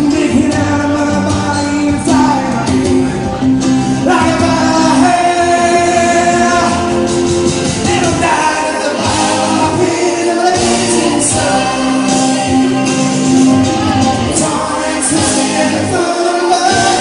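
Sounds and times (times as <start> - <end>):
live rock band: 0.0 - 17.0
singer holding long notes: 0.0 - 17.0.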